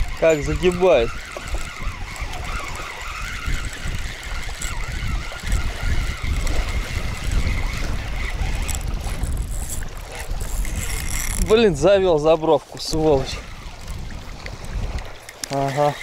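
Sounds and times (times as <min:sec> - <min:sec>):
waves lapping at shore: 0:00.0 - 0:16.0
wind buffeting microphone: 0:00.0 - 0:16.0.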